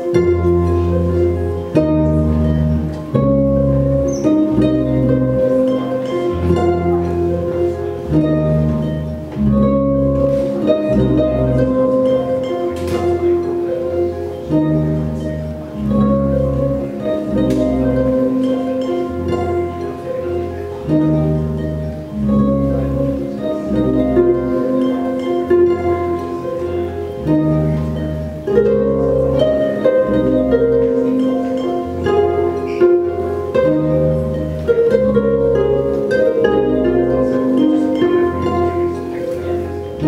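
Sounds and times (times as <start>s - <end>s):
harp plucked notes and arpeggios: 0.0s - 40.0s
low bass notes: 0.0s - 40.0s.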